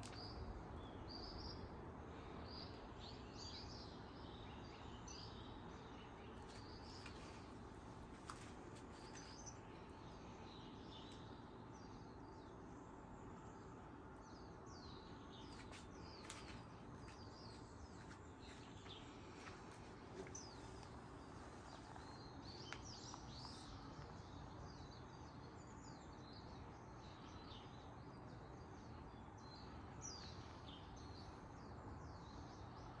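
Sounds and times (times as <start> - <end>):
faint small birds chirping: 0.0 - 33.0
low steady background hum: 0.0 - 33.0.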